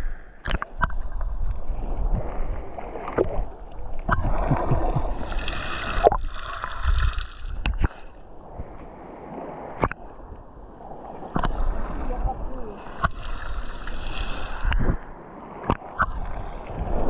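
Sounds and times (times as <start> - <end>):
sea water sloshing and splashing: 0.0 - 17.0.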